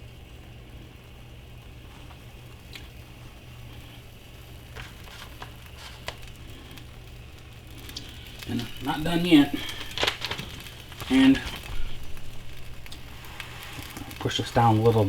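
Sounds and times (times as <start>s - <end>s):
bread sizzling in a skillet: 0.0s - 15.0s
steady low hum: 0.0s - 15.0s.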